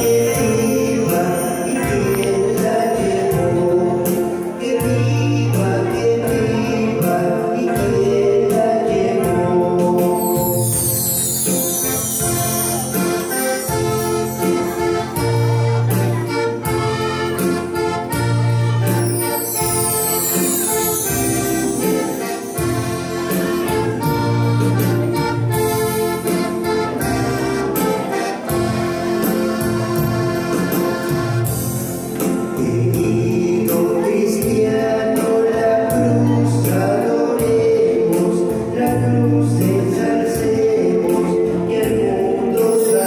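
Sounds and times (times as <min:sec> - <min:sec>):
electronic keyboard accompaniment: 0:00.0 - 0:43.0.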